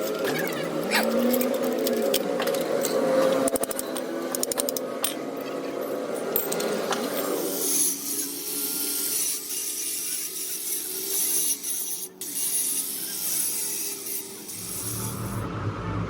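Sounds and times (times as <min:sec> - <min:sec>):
hand tools ratcheting and scraping: 0:00.0 - 0:15.4.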